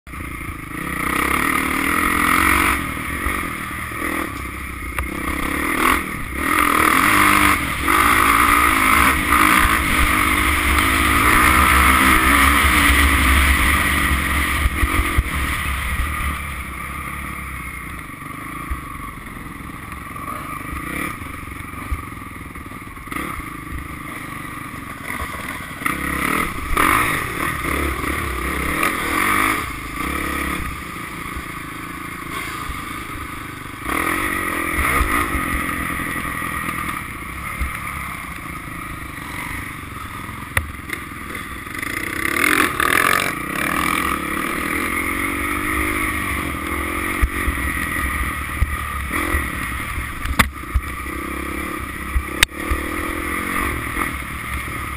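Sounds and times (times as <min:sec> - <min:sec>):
dirt bike engine revving: 0:00.1 - 0:54.9.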